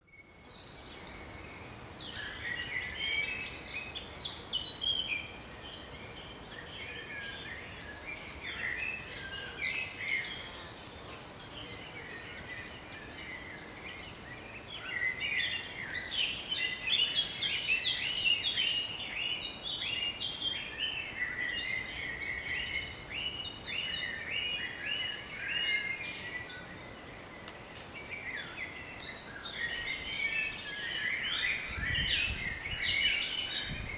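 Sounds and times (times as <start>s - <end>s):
songbirds chirping and trilling: 0.0s - 33.9s
faint background hiss: 0.1s - 33.9s.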